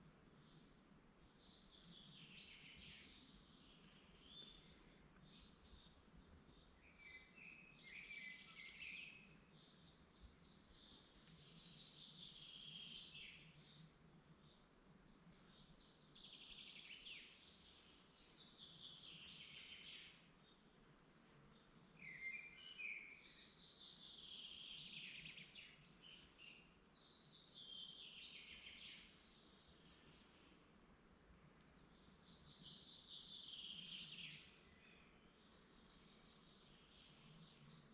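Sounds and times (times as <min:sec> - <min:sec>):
songbird singing: 0:00.0 - 0:37.9.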